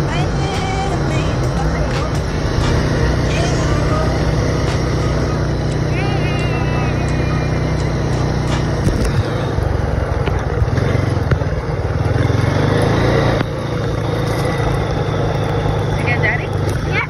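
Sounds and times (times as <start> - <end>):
atv engine running: 0.0 - 17.0
tyres on gravel: 0.0 - 17.0.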